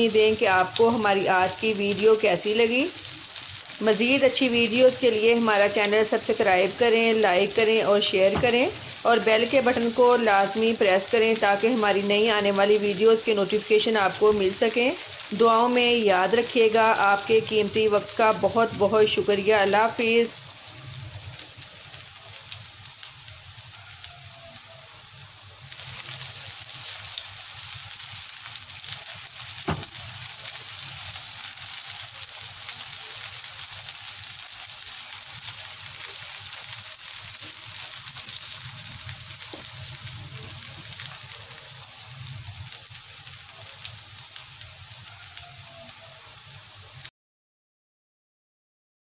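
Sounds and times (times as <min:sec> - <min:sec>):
okra sizzling in butter: 0:00.0 - 0:47.1.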